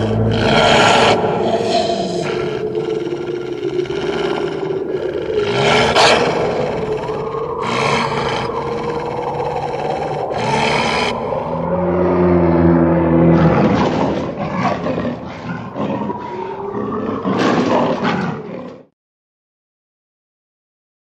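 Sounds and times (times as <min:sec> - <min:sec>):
eerie wavering drone: 0:00.0 - 0:18.9.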